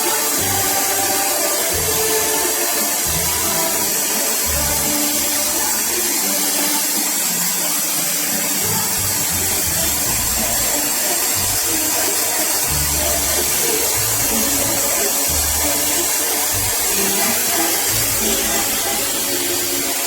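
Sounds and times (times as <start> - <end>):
faint music: 0.0 - 20.0
hair dryer blowing air: 0.0 - 20.0.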